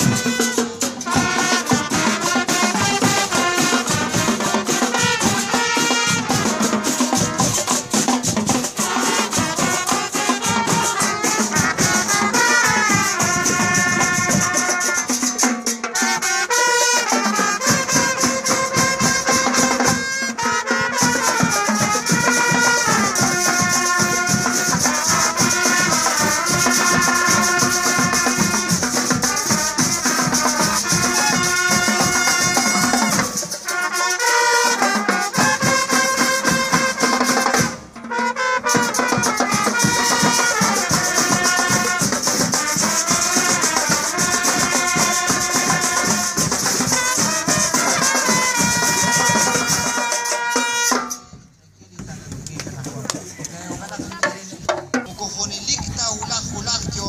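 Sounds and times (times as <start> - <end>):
trumpets playing in unison: 0.0 - 51.4
snare and bass drums: 0.0 - 57.0.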